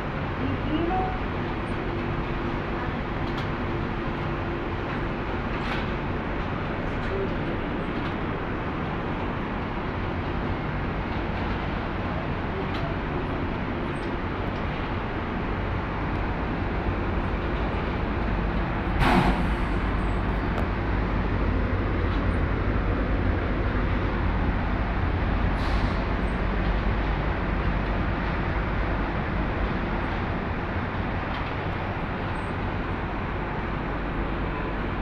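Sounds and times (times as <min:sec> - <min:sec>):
air extraction rushing and rumbling: 0:01.2 - 0:35.0.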